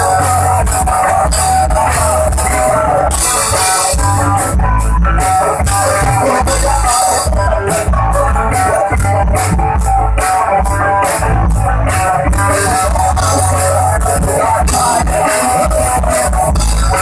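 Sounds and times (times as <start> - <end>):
instrumental rock band: 0.0 - 17.0.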